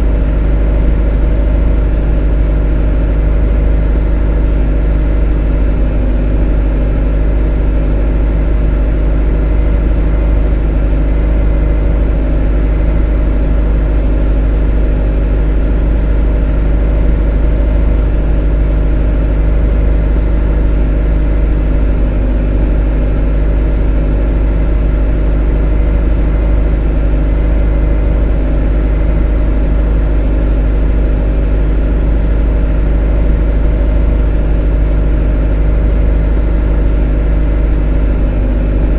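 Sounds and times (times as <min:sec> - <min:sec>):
motor running steadily: 0:00.0 - 0:38.9.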